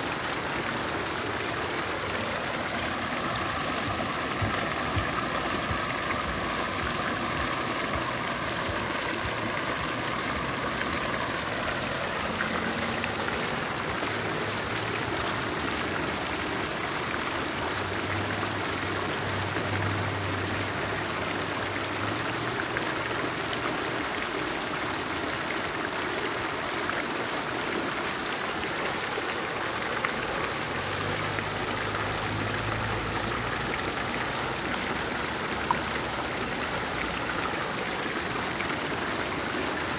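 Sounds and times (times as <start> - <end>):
fountain jets splashing: 0.0 - 39.9.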